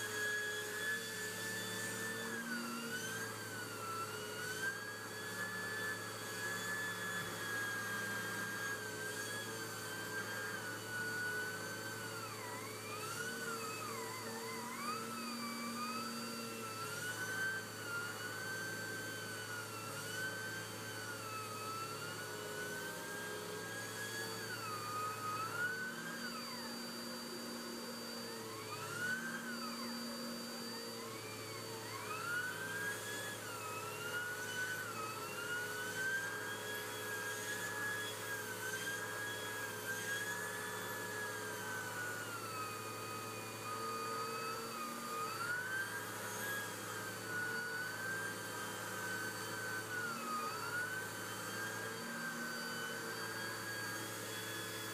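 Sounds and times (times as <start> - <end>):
vacuum cleaner motor whine: 0.0 - 54.9.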